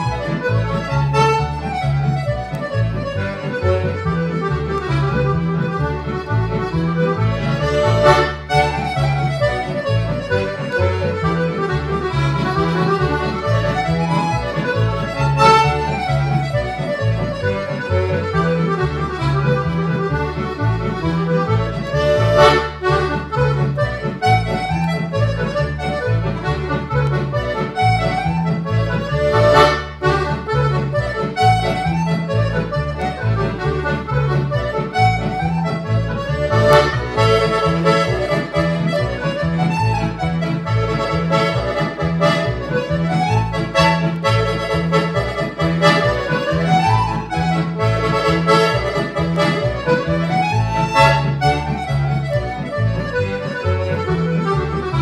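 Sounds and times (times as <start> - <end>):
accordion bass and chord accompaniment: 0.0 - 55.0
piano accordion melody: 0.0 - 55.0.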